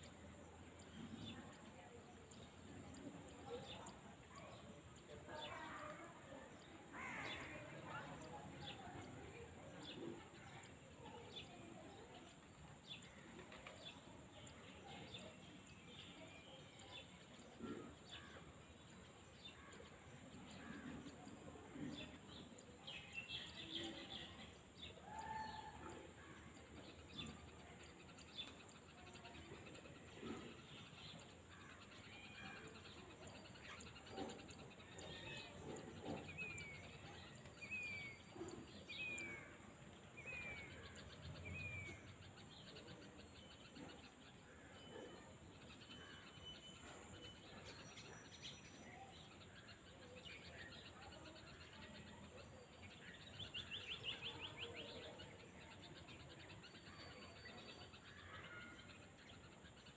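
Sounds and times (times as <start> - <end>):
countryside ambience: 0.0 - 59.9.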